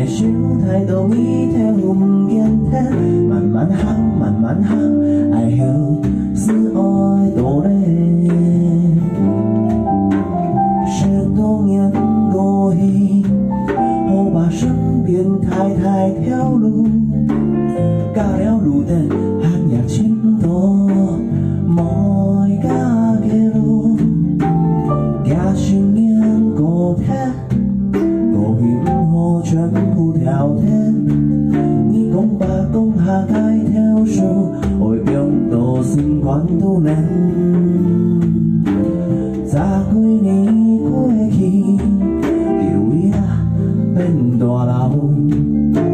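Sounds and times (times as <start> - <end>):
electric bass: 0.0 - 45.9
electric guitar: 0.0 - 45.9.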